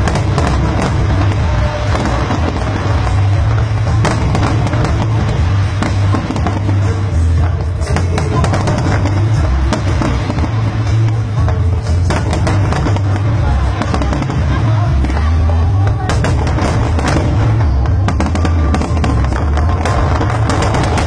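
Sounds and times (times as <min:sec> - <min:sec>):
constant low rumble: 0:00.0 - 0:21.0
fireworks bursting and crackling: 0:00.0 - 0:21.0
music playing: 0:00.0 - 0:21.0.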